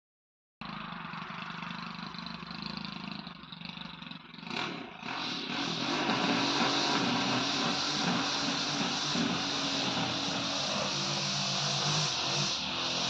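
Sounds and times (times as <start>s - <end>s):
lawn mower engine running: 0.6s - 13.0s.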